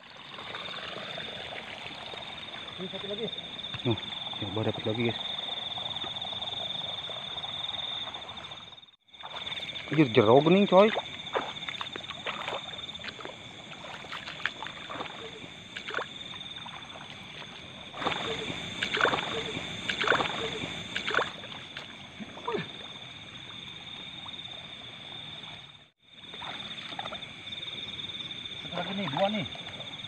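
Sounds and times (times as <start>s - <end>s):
frogs croaking: 0.0s - 30.0s
night insects chorus: 0.0s - 30.0s
water splashing and sloshing: 0.0s - 30.0s.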